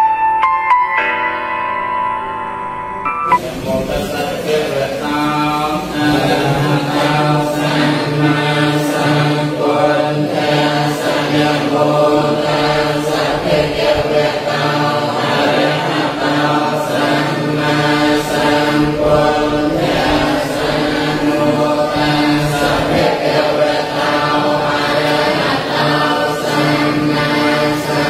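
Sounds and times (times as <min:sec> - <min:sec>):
group chanting in unison: 0:03.3 - 0:28.0.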